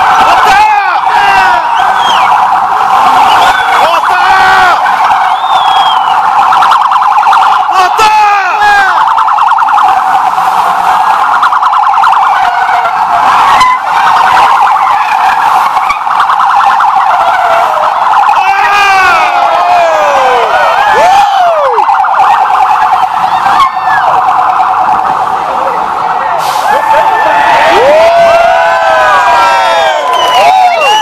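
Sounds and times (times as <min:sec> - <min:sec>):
police sirens warbling and wailing: 0:00.0 - 0:31.0.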